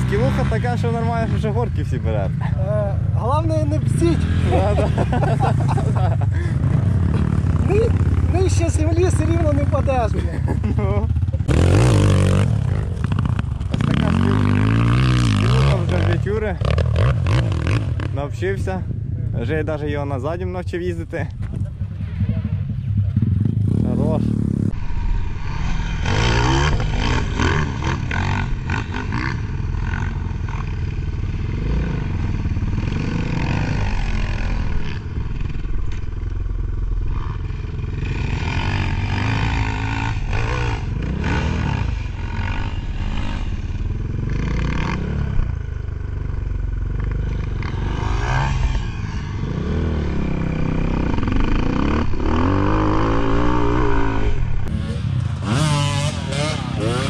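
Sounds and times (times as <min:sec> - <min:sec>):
dirt bike engine revving: 0:00.0 - 0:18.4, 0:21.9 - 0:57.0.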